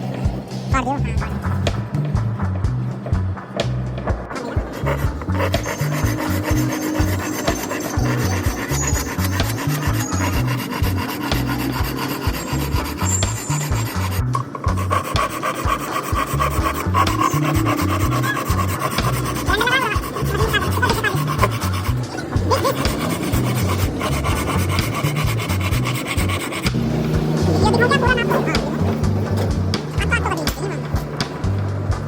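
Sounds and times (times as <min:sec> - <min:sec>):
rasp scraping wood: 0:00.0 - 0:32.0.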